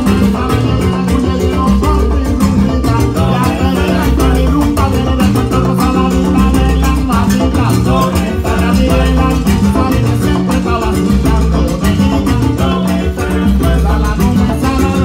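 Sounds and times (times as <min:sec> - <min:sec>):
bass line: 0:00.0 - 0:15.0
congas: 0:00.0 - 0:15.0
salsa band playing: 0:00.0 - 0:15.0.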